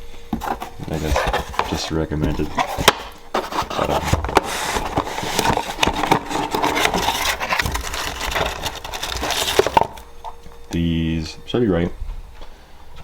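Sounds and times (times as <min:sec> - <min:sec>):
parts rubbing and rustling: 0:00.0 - 0:10.9.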